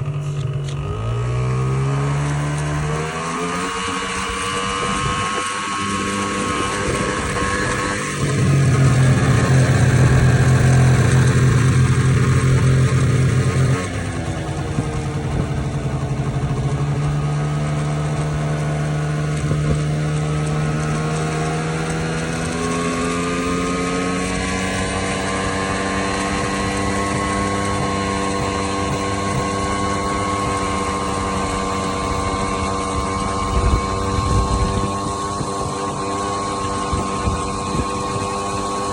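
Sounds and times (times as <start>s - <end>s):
low drone: 0.0s - 38.9s
scooter engine running: 0.0s - 38.9s.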